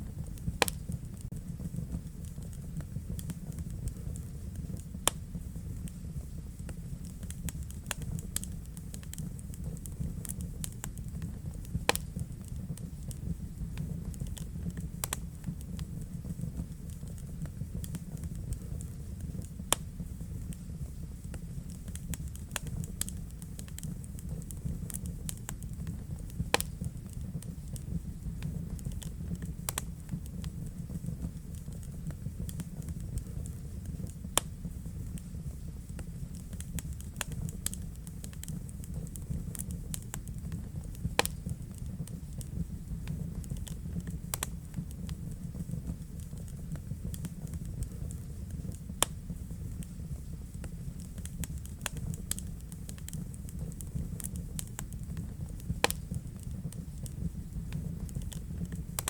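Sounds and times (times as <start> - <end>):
fire crackling: 0.0 - 59.0
loud fire pops: 0.0 - 59.0
low rumble of flame: 0.0 - 59.0.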